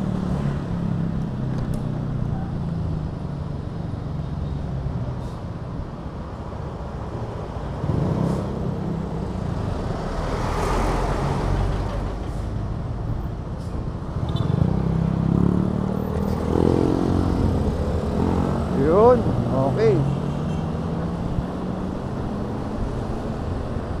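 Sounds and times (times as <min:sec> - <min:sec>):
bus and truck engines running: 0:00.0 - 0:24.0
road traffic: 0:00.0 - 0:24.0.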